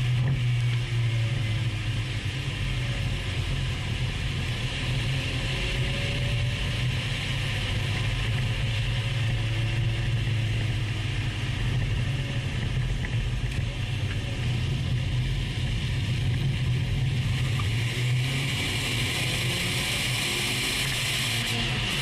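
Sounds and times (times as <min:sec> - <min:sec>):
car engine droning while driving: 0:00.0 - 0:22.0.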